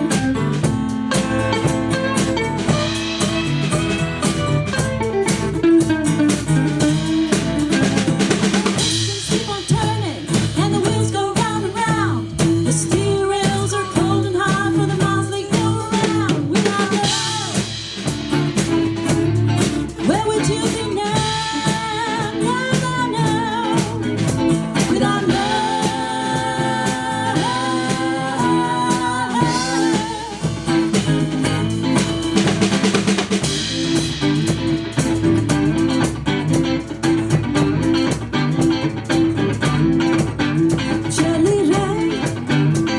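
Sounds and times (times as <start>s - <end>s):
bass line: 0.0s - 42.9s
drum kit beat: 0.0s - 42.9s.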